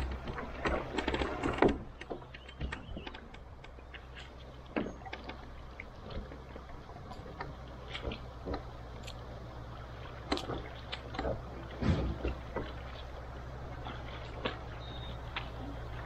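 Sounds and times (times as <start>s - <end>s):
wading splashes: 0.0s - 16.0s
water rippling around canoe hull: 0.0s - 16.0s.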